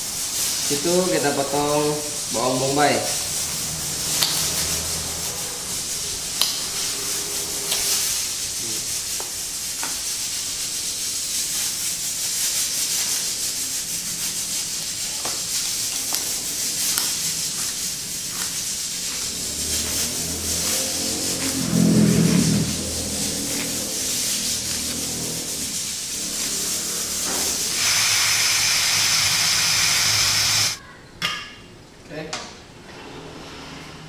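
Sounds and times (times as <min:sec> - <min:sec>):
steady hiss: 0:00.0 - 0:30.8.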